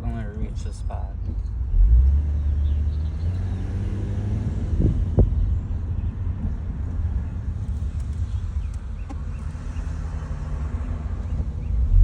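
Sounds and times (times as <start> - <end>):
road and engine rumble in car cabin: 0.0 - 12.0.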